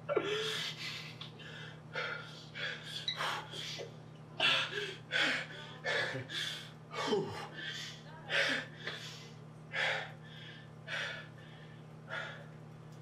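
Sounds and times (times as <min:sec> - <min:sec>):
man breathing hard and fast: 0:00.2 - 0:12.6.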